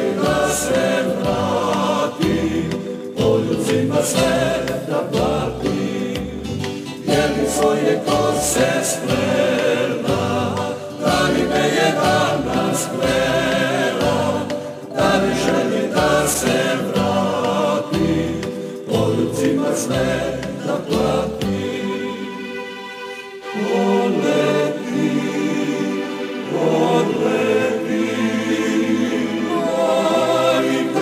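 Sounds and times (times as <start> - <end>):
choir singing with vibrato: 0.0 - 31.0.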